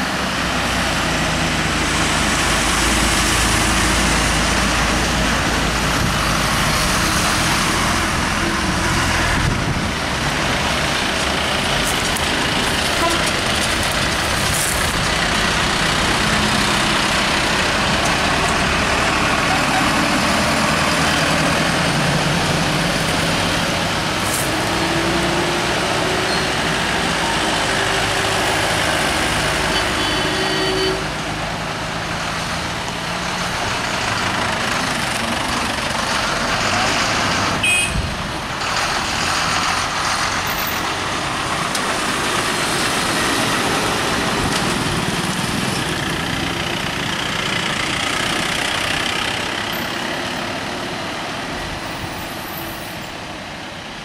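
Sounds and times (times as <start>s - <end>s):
traffic engine hum and road noise: 0.0s - 54.0s.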